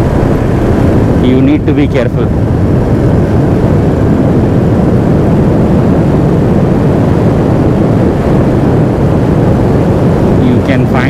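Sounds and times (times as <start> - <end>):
motorcycle engine running: 0.0 - 9.8
wind and road noise: 0.0 - 11.0.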